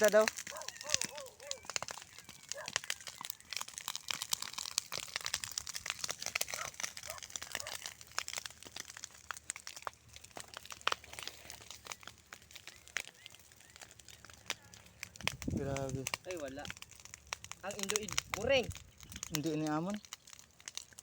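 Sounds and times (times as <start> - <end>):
fire debris crackling and crunching: 0.0 - 21.0.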